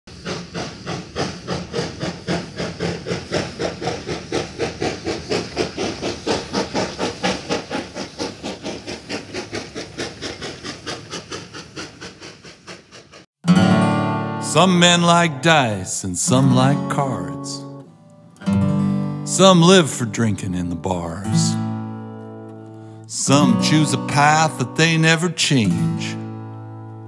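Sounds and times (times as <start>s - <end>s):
steam locomotive chuffing: 0.1s - 17.9s, 18.5s - 27.0s.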